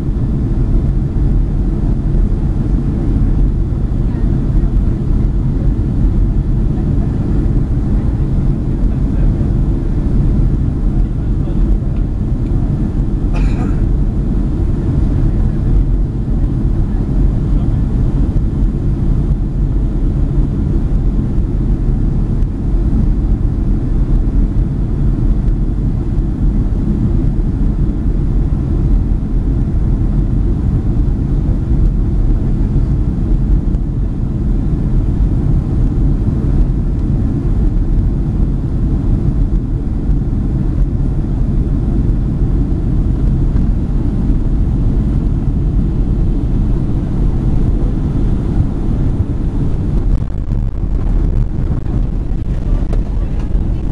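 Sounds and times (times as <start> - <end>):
jet engines and airflow rumble: 0.0 - 53.9.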